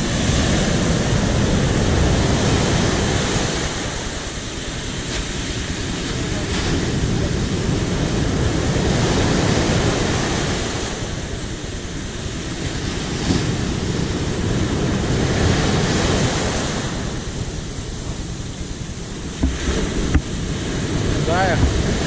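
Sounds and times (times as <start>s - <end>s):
heavy surf breaking ashore: 0.0s - 22.0s
wind buffeting microphone: 0.0s - 22.0s.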